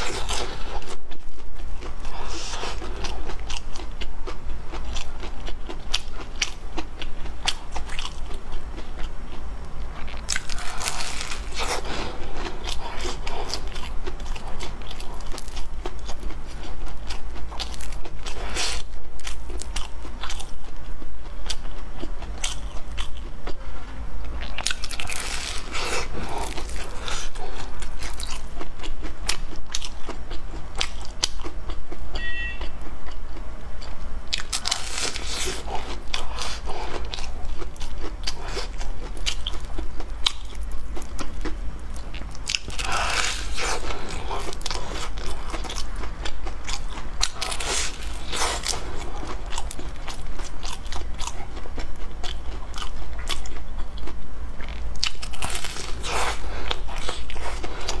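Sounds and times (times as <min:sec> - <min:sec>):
crunching and chewing fried food: 0:00.0 - 0:58.0.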